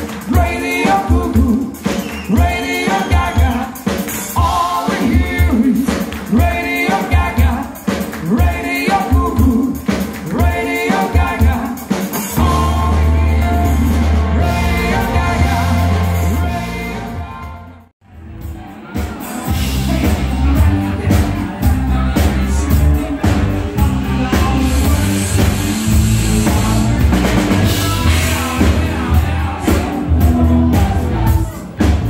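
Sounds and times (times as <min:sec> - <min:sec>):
bass: 0:00.0 - 0:32.0
drum kit beat: 0:00.0 - 0:32.0
person singing: 0:00.0 - 0:32.0.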